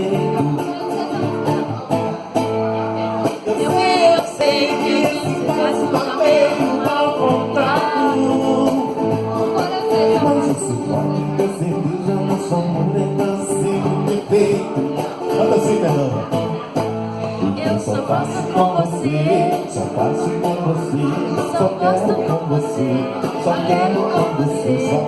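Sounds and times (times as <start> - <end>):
guitar playing: 0.0 - 25.0
person singing: 3.2 - 25.0.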